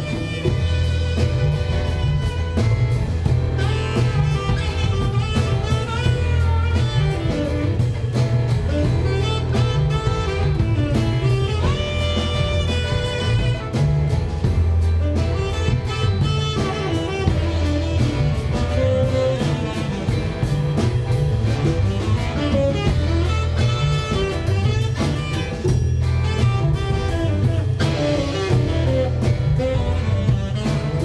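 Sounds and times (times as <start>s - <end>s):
drum kit beat: 0.0s - 31.0s
lead melody: 0.0s - 31.0s
upright bass walking: 0.0s - 31.0s.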